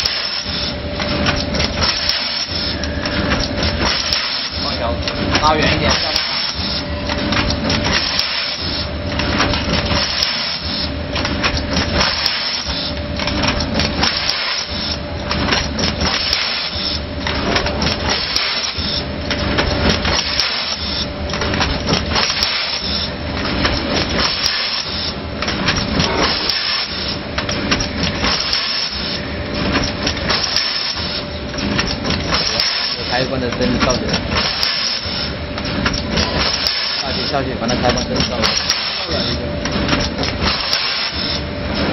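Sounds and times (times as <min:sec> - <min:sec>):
packing machine clattering: 0:00.0 - 0:41.9.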